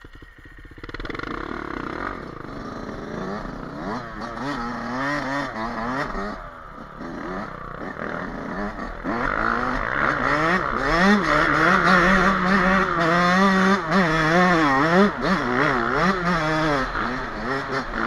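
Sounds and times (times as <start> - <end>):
two-stroke dirt bike engine revving: 0.0 - 18.0.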